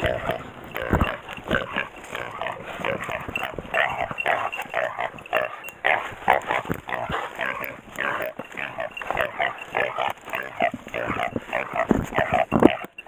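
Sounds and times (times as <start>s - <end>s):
wild boar squealing and grunting: 0.0s - 13.0s.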